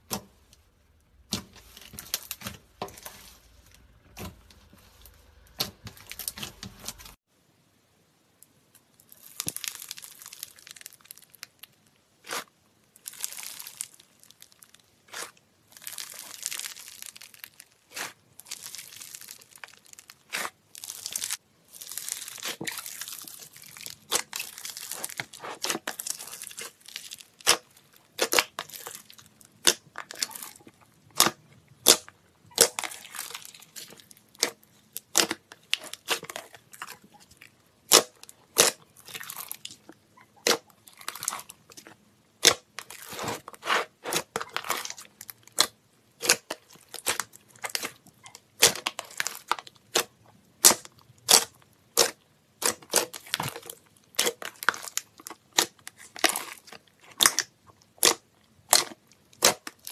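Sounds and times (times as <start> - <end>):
hands squishing slime: 0.0 - 7.2, 12.1 - 59.9
slime popping and crackling: 9.0 - 59.9.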